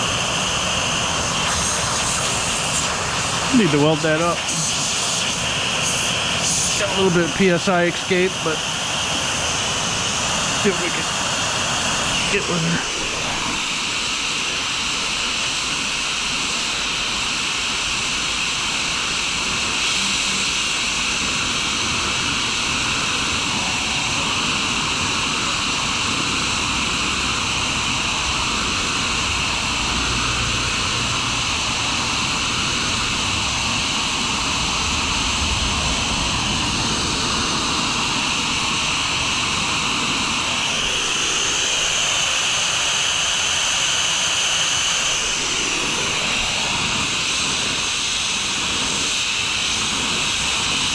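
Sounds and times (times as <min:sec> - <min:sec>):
torch flame hissing roar: 0:00.0 - 0:50.9.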